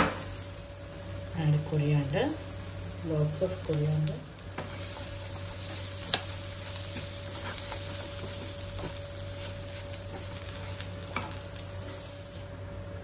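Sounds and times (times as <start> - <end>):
food sizzling in a pan: 0.0 - 12.7.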